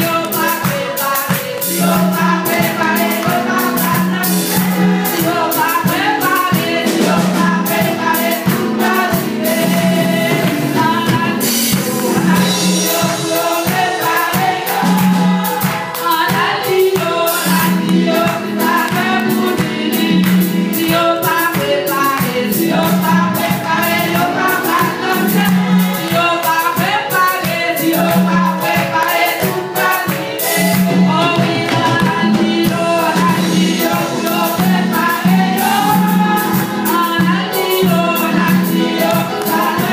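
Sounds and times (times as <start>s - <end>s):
percussive beat: 0.0s - 39.9s
women's choir singing gospel: 0.0s - 39.9s.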